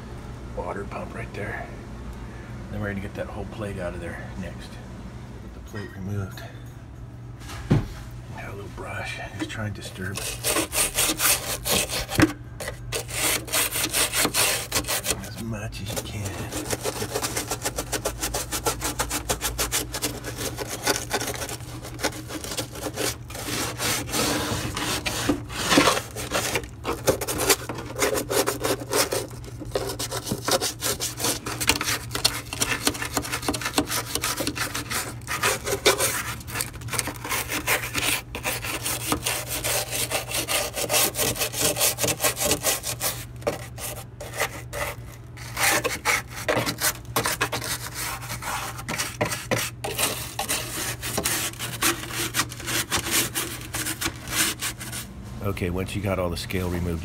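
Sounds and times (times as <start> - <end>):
steady low hum: 0.0 - 57.0
brush scrubbing plastic: 8.9 - 57.0.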